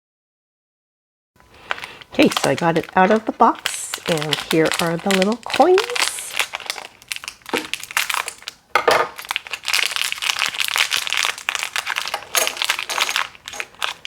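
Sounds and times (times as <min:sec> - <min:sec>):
plastic packaging crinkling: 0:01.4 - 0:14.0.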